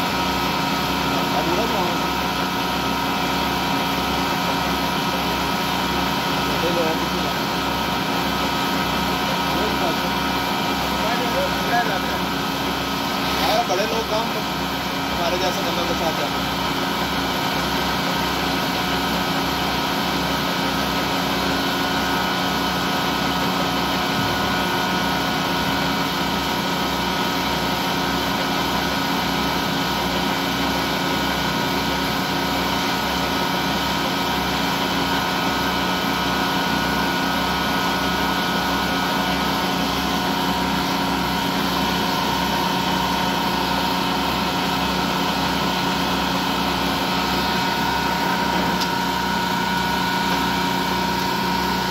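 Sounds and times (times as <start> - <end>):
lathe machine hum: 0.0 - 51.9.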